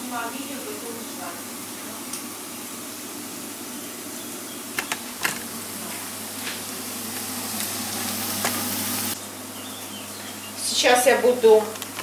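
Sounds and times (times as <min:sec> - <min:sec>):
onion sizzling in a pan: 0:00.0 - 0:10.2.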